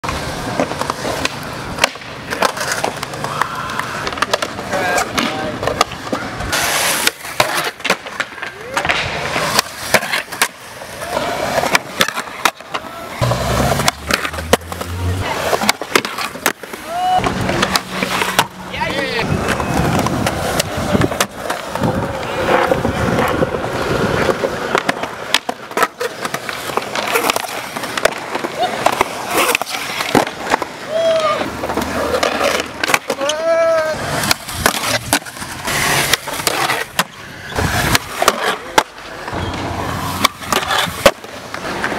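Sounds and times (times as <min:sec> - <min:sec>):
skateboard clacking on ground: 0:00.0 - 0:41.9
skateboard scrape: 0:00.0 - 0:41.9
skateboard wheels rolling on concrete: 0:00.0 - 0:41.9.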